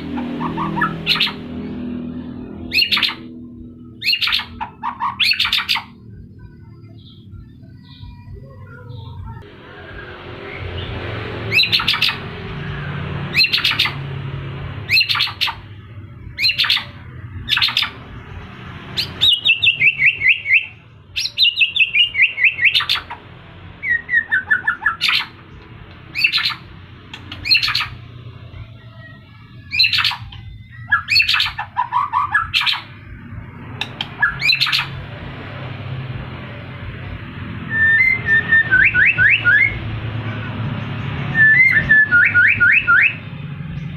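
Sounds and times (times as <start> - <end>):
bird singing sharp high notes: 0.0 - 8.3, 9.9 - 23.2, 23.8 - 35.1, 37.6 - 43.3.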